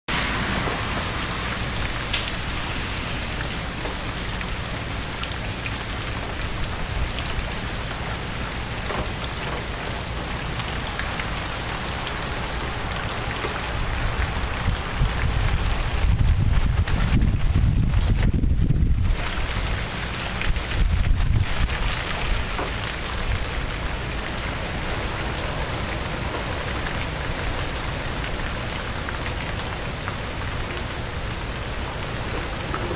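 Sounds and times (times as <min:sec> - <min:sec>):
raindrops ticking: 0:00.1 - 0:32.9
steady rain falling: 0:00.1 - 0:32.9.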